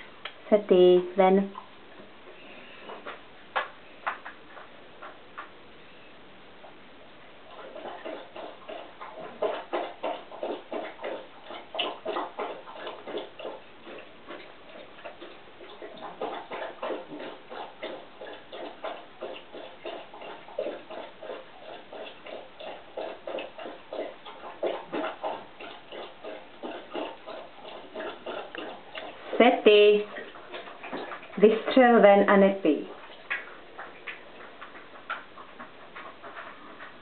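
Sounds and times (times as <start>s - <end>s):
dog lapping water: 7.3s - 37.0s.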